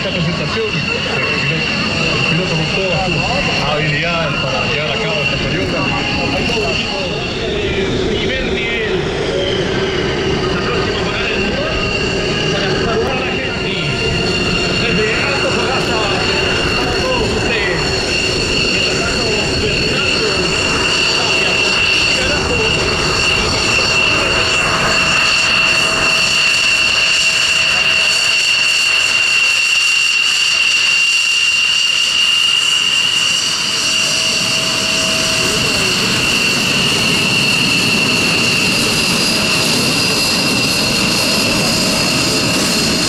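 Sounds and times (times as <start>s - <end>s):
aircraft engine whining: 0.0s - 43.0s.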